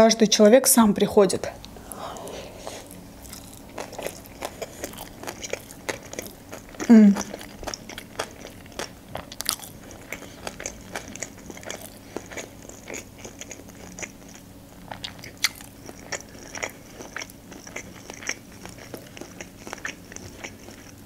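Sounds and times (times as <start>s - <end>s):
chewing food with mouth clicks: 1.6s - 21.0s.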